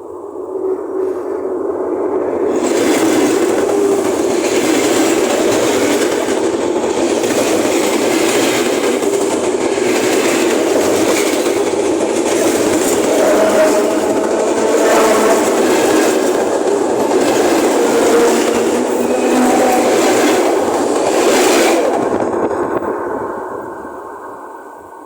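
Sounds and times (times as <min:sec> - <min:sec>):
train wheels rumbling and rattling: 0:00.8 - 0:23.8.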